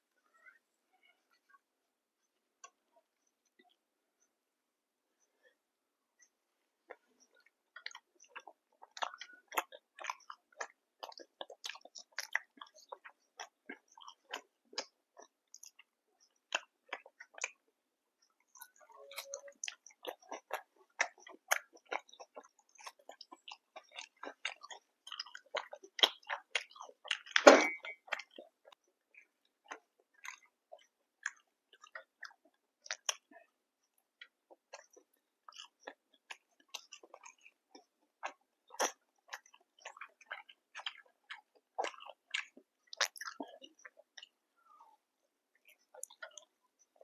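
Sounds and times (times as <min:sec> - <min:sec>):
person chewing food: 0:02.2 - 0:04.4, 0:05.1 - 0:47.0.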